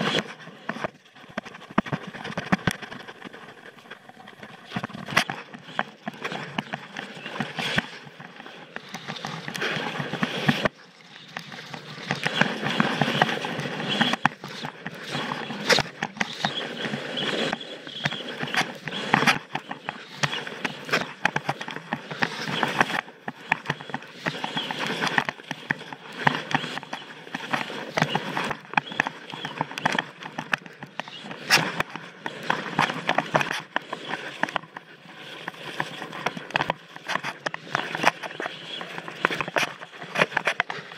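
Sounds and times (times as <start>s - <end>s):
skis scraping over snow: 0.0s - 40.9s.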